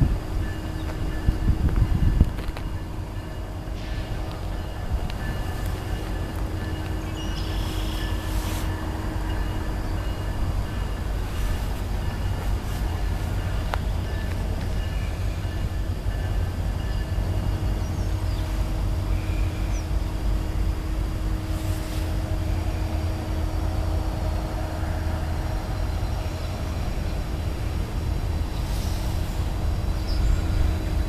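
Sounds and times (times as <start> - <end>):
distant diesel locomotive rumble: 0.0 - 31.0.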